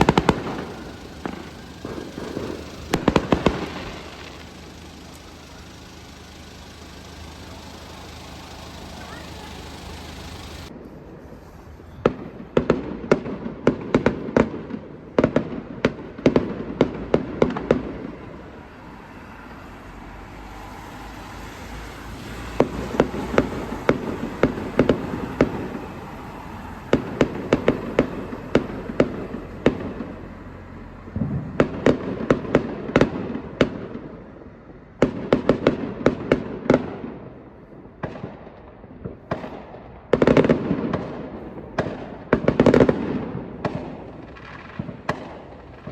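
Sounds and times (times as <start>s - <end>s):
fireworks bangs and crackles: 0.0s - 11.1s, 12.0s - 45.9s.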